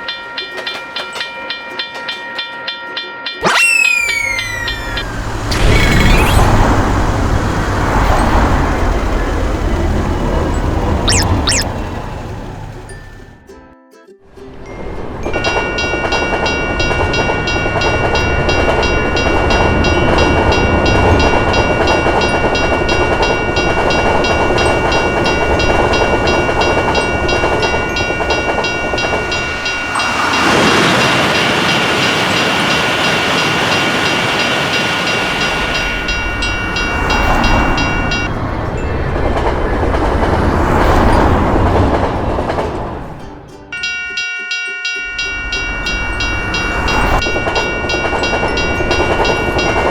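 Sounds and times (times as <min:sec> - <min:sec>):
crossing bell ringing: 0:00.0 - 0:13.5, 0:14.6 - 0:49.9
train rumbling: 0:03.9 - 0:13.5, 0:14.6 - 0:44.2, 0:44.8 - 0:49.9.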